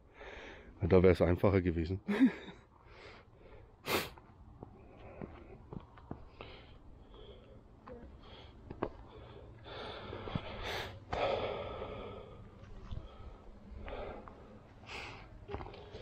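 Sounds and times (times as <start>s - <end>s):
man breathing hard: 0.0s - 0.8s, 2.8s - 16.0s.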